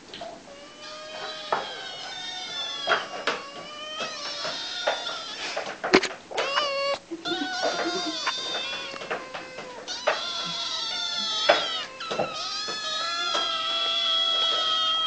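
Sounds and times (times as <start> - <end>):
kittens meowing: 0.2 - 15.0.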